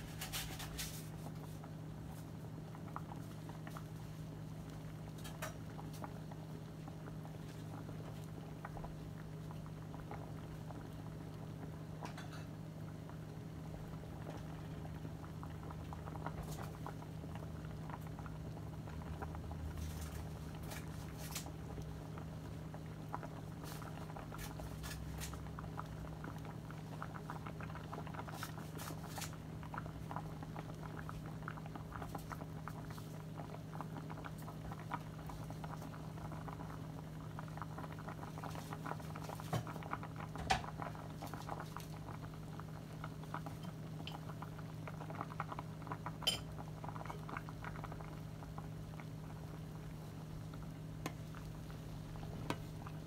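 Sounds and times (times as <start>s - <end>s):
soup bubbling at a boil: 0.0s - 53.0s.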